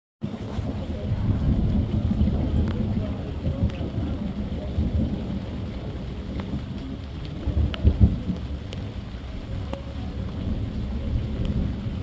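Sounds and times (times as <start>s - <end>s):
steady falling rain: 0.2s - 12.0s
thunder rumbling: 0.3s - 12.0s
water drip ticks: 1.6s - 12.0s.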